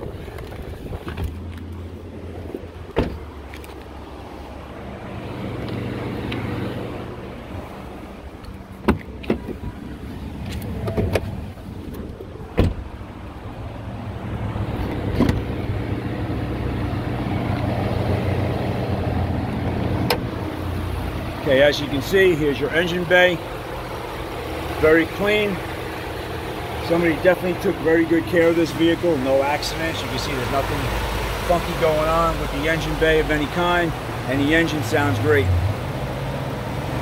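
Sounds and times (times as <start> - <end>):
pickup engine idling: 0.0 - 37.0.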